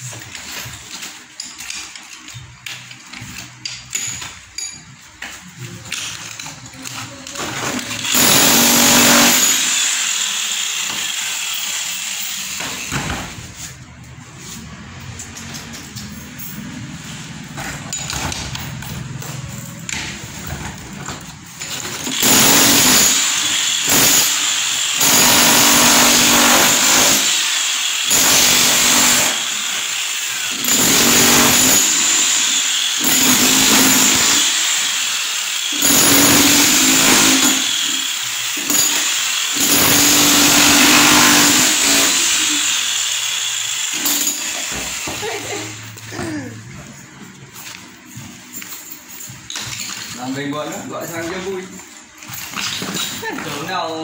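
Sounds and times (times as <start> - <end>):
power tool on masonry: 0.0 - 13.7, 14.4 - 46.5, 49.5 - 54.0.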